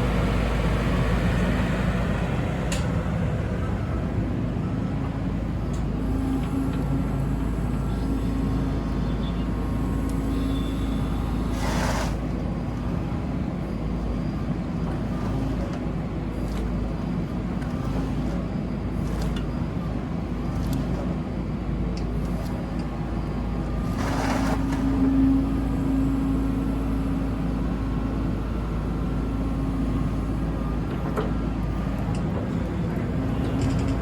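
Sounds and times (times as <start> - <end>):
excavator diesel engine humming: 0.0 - 34.0.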